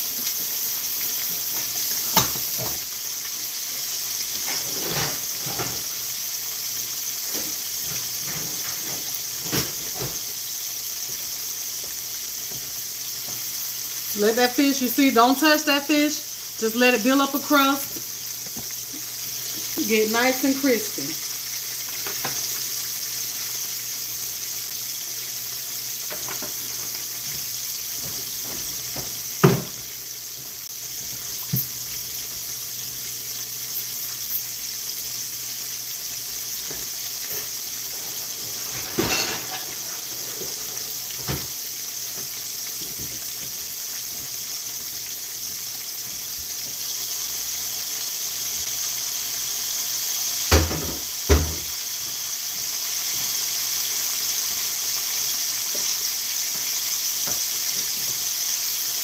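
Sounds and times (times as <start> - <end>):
fish frying in oil: 0.0 - 59.0.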